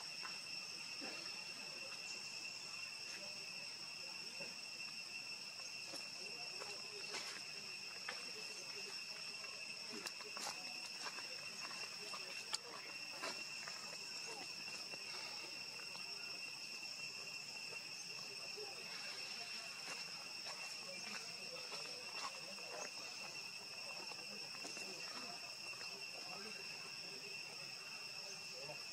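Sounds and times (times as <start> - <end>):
insects chirring: 0.0 - 28.9.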